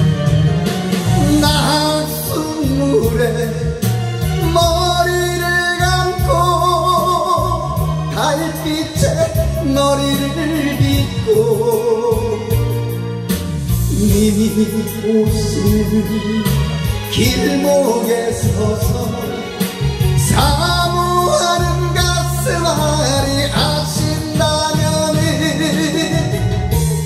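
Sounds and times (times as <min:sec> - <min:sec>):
karaoke backing track: 0:00.0 - 0:27.0
man singing into a microphone: 0:01.0 - 0:27.0.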